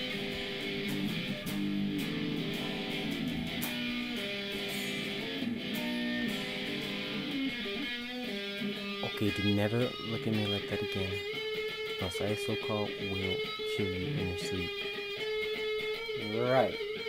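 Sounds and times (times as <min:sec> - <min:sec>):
guitar held notes: 0:00.0 - 0:17.0.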